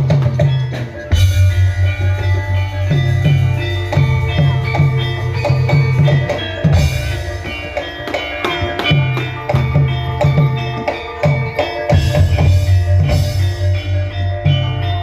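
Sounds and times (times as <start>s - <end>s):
drum strokes: 0.0s - 15.0s
ringing metallophones and gongs: 0.0s - 15.0s.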